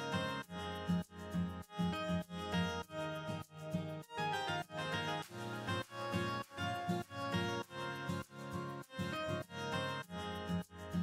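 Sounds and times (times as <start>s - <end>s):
light instrumental tune: 0.0s - 11.0s.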